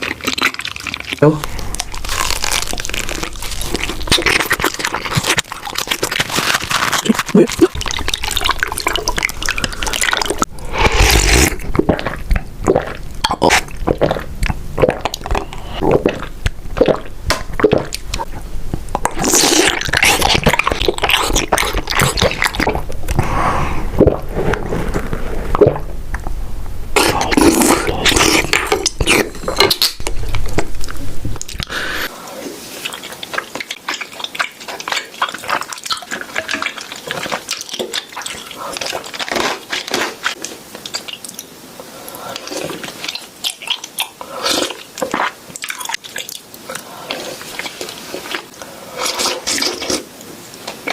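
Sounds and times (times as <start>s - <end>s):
slurping through a straw: 0.0s - 18.3s, 19.0s - 25.8s, 27.0s - 30.2s, 31.4s - 41.2s, 41.8s - 50.9s
wet sticky chewing: 0.0s - 23.2s, 27.0s - 50.9s.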